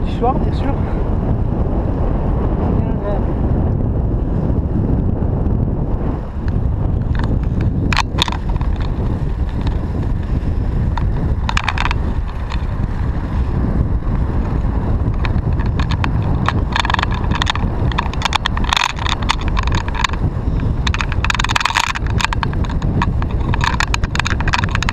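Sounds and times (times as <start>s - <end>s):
bicycle rattling over bumps: 0.0s - 24.9s
bicycle tyres on road: 0.0s - 24.9s
wind on microphone: 0.0s - 24.9s.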